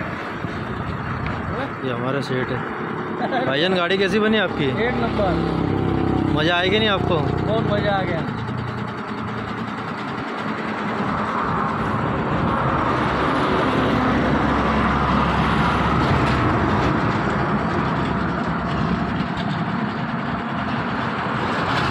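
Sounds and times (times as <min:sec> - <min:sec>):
vehicle engine rumble: 0:00.0 - 0:21.9.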